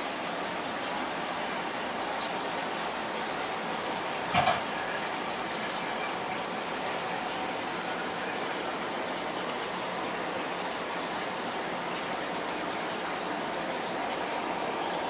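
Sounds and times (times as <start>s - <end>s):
aquarium filter water splashing: 0.0s - 15.0s.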